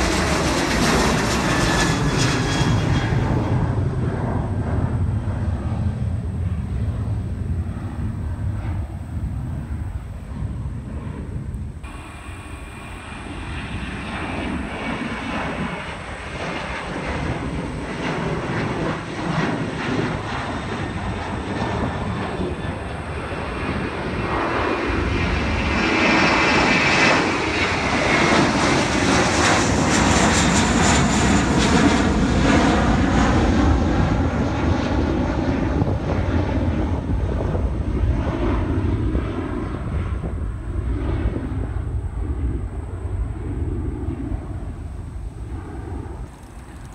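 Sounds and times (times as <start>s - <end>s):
jet engines roaring: 0.0s - 46.9s
jet passing overhead: 0.0s - 46.9s.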